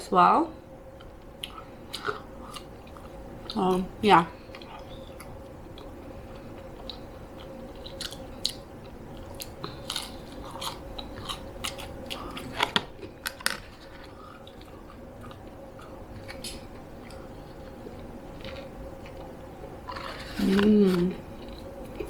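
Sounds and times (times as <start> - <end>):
faint steady hum: 0.0 - 22.0
chewing and biting food: 1.0 - 3.7, 4.4 - 22.0.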